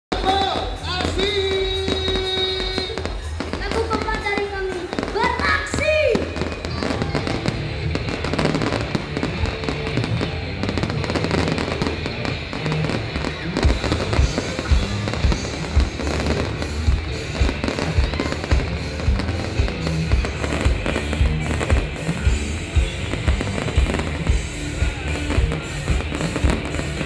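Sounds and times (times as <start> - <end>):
fireworks bursting and crackling: 0.1 - 27.0
heavy fireworks booms: 0.1 - 27.0
loud music: 0.1 - 27.0.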